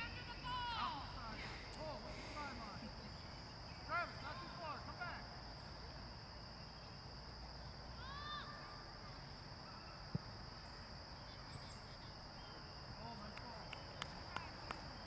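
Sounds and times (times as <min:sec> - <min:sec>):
outdoor field hiss: 0:00.0 - 0:15.0.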